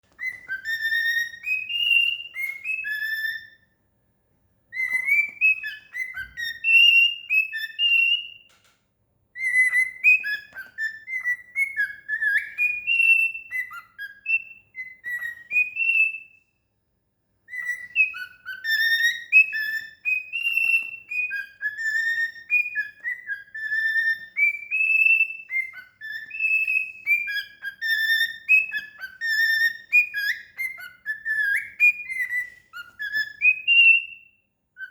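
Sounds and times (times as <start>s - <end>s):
cockatiel whistling song: 0.0s - 3.8s, 4.7s - 8.7s, 9.3s - 16.6s, 17.4s - 34.9s.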